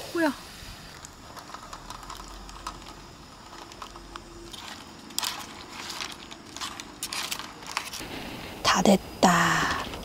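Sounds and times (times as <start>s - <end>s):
gas burner hissing: 0.0s - 10.0s
pot boiling: 0.0s - 10.0s.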